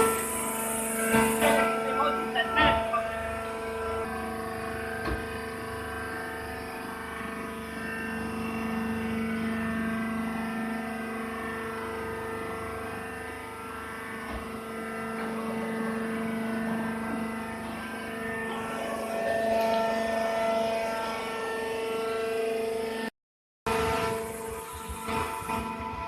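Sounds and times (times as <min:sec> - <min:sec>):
baling machine droning: 0:00.0 - 0:23.1, 0:23.7 - 0:26.0.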